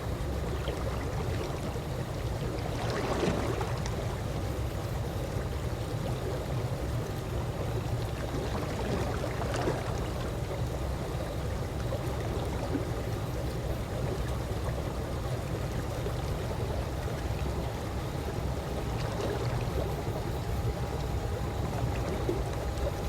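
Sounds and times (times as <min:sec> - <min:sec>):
pool water moving gently: 0:00.0 - 0:23.0.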